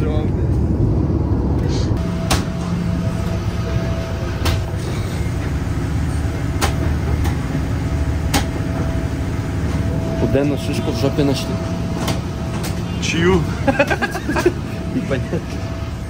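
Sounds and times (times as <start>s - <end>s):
low rumble and hum inside airliner: 0.0s - 16.0s.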